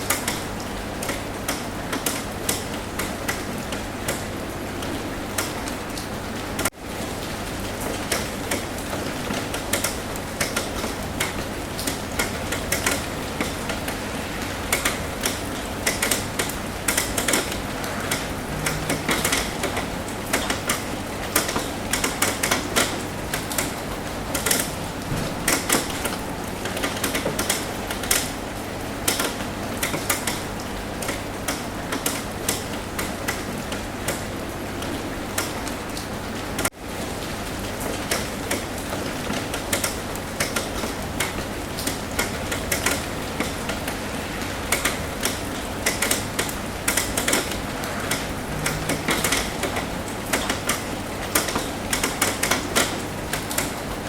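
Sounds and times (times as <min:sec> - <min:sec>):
rain tapping on a roof: 0:00.0 - 0:54.0
steady hiss of rainfall: 0:00.0 - 0:54.0.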